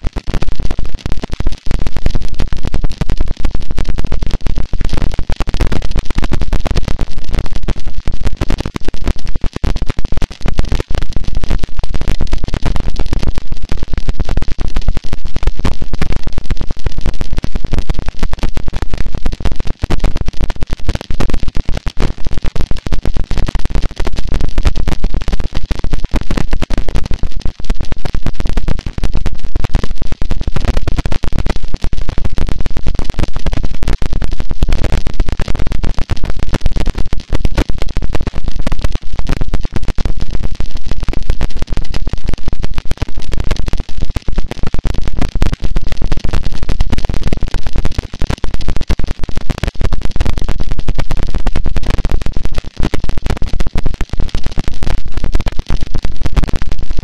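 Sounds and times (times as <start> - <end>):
distorted static noise: 0.0 - 57.0.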